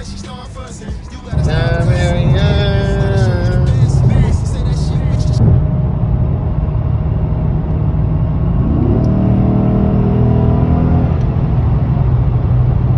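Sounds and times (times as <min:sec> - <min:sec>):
engine rumbling and revving: 0:00.0 - 0:12.9.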